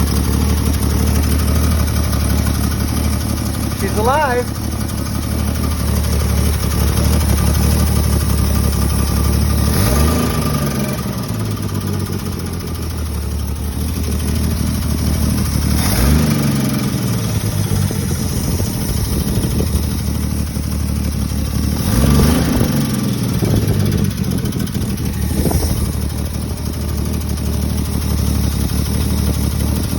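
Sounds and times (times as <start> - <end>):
car engine idling: 0.0 - 29.9
engine throttle blips: 0.0 - 29.9.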